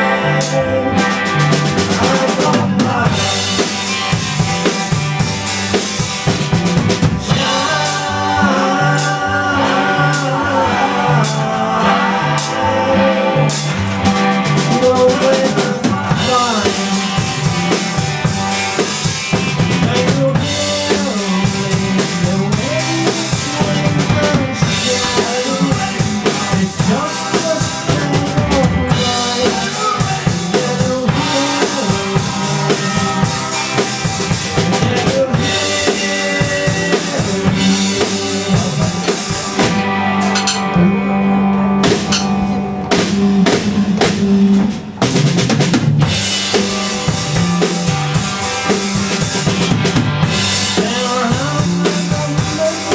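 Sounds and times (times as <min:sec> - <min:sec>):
drum kit beat: 0:00.0 - 0:09.4, 0:11.2 - 0:11.8, 0:12.4 - 0:52.9
band playing instrumental: 0:00.0 - 0:52.9.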